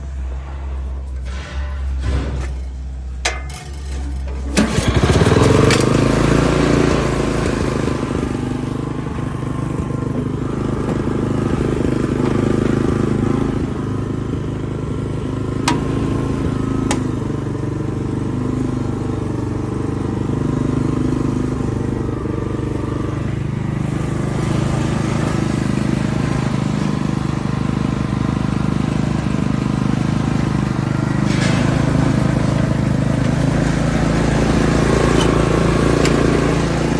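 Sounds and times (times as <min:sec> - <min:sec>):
small engine starting and running: 0:03.8 - 0:36.9.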